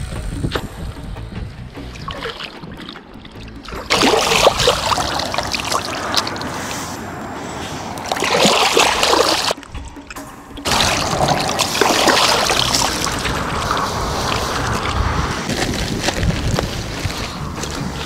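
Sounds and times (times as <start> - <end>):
water splashing and sloshing: 1.6 - 18.0.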